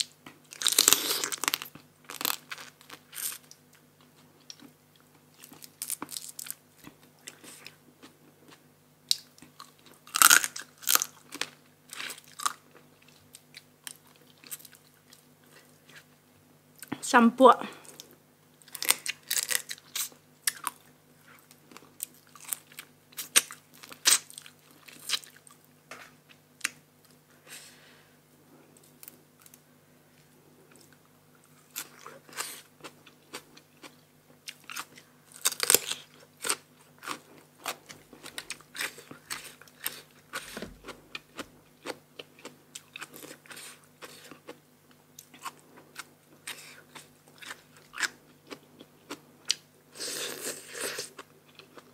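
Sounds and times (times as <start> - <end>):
person chewing crunchy food: 0.0 - 16.1, 17.8 - 26.8, 30.2 - 51.9
faint steady hum: 0.0 - 51.9.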